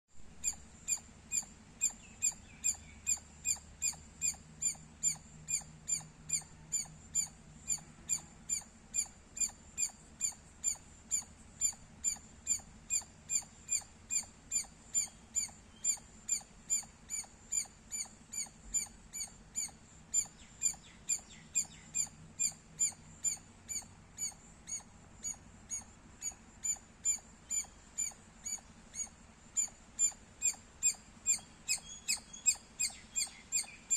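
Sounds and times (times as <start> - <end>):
squirrel chirping: 0.4 - 33.9.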